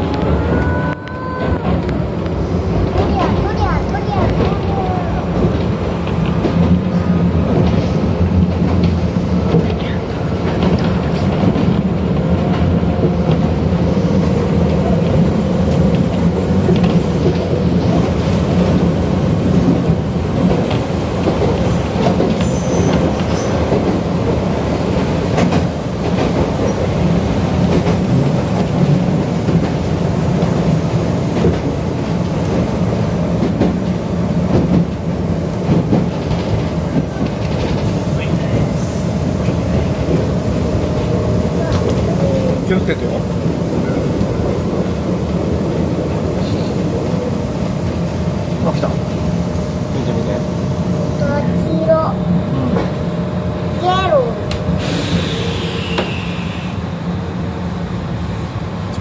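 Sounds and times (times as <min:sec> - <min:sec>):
electric train rumble: 0:00.0 - 0:59.0.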